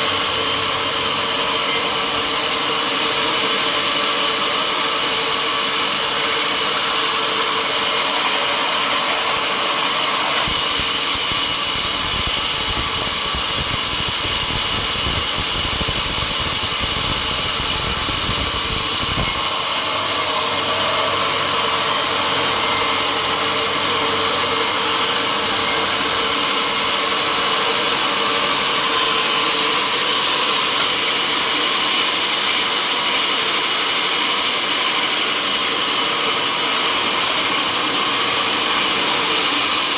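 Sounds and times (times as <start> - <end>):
sawmill machinery whine: 0.0 - 39.9.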